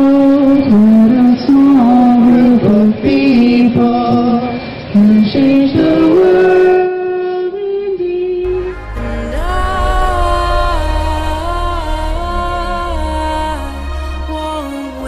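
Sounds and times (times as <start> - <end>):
woman singing slow melody: 0.0 - 15.0.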